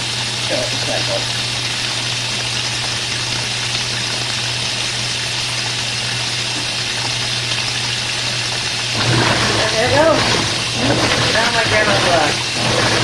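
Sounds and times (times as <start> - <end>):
water pouring into tub: 0.0 - 13.0.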